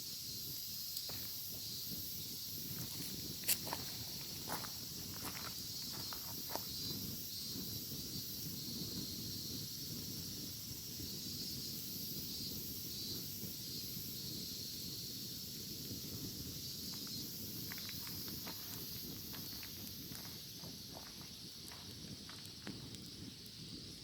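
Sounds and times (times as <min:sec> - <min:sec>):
cicadas buzzing: 0:00.0 - 0:24.0
campfire crackling: 0:00.1 - 0:24.0.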